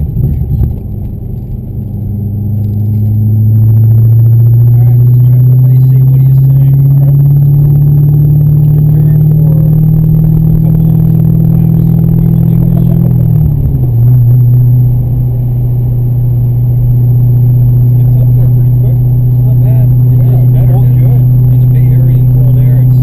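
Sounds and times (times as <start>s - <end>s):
car engine droning at speed: 0.0s - 23.0s.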